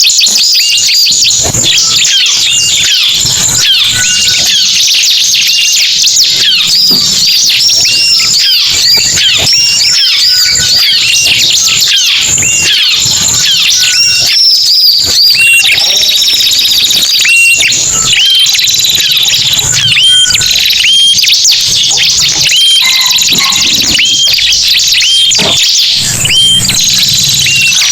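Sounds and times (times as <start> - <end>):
songbird chirps: 0.0 - 27.9.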